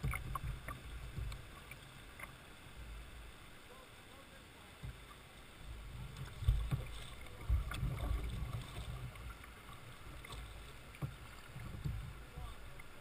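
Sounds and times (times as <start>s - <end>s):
water slapping against kayak hull: 0.0s - 3.0s, 4.8s - 13.0s
paddle splashes: 0.0s - 13.0s.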